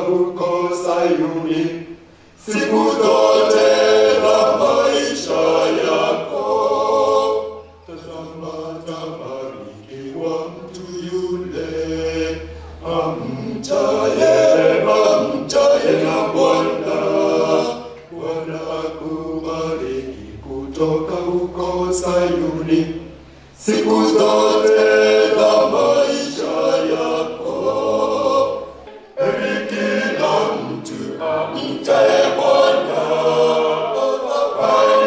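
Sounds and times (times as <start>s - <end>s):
male a cappella group singing: 0.0s - 35.0s.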